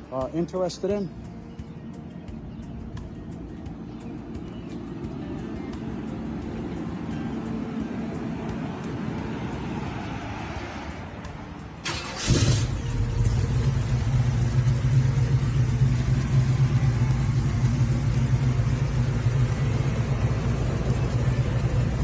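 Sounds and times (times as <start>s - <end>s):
car engine cranking and idling: 2.4s - 22.0s.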